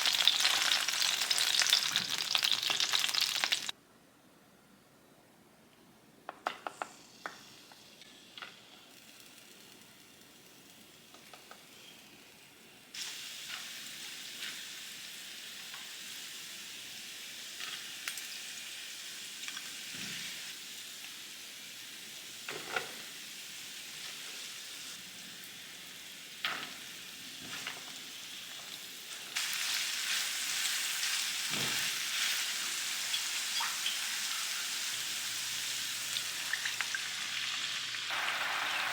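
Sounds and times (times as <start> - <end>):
food sizzling in a frying pan: 0.0 - 3.8, 7.4 - 38.9.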